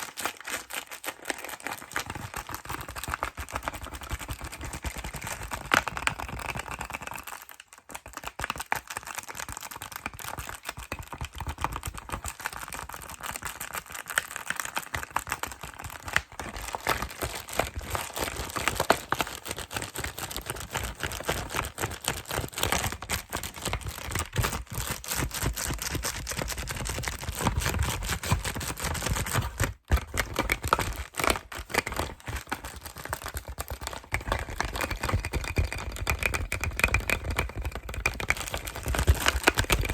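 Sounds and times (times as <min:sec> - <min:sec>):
packaging tapping and crinkling: 0:00.0 - 0:39.9.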